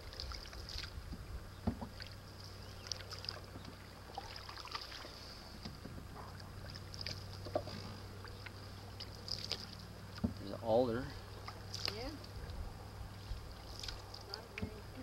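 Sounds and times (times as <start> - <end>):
paddle dipping and dripping: 0.0 - 15.0
steady low hum: 0.0 - 15.0.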